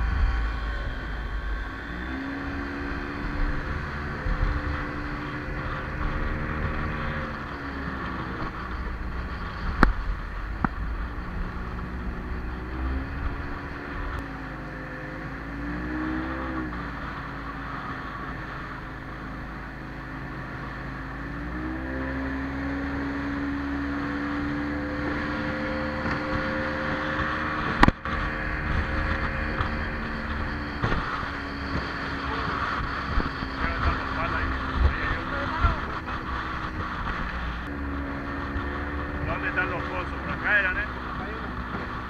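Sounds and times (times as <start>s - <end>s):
wind noise: 0.0s - 14.3s, 20.8s - 42.0s
outboard motor running: 0.0s - 42.0s
water rushing: 0.0s - 42.0s.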